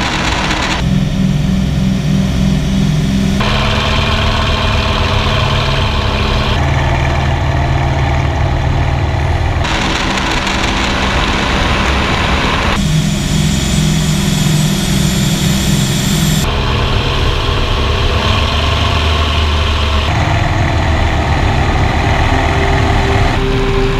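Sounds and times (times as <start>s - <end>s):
piston aircraft engines in flight: 0.0s - 23.9s.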